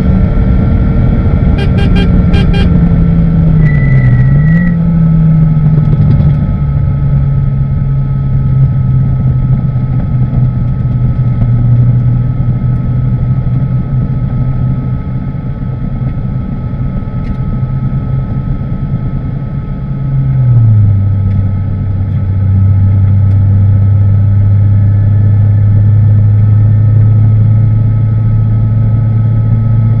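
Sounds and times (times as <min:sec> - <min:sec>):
race car engine running: 0:00.0 - 0:30.0.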